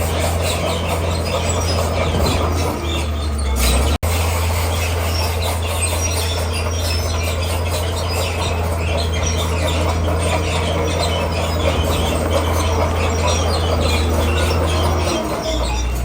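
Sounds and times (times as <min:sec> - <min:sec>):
bulldozer diesel engine running: 0:00.0 - 0:16.0
steel tracks squealing and clattering: 0:00.0 - 0:16.0.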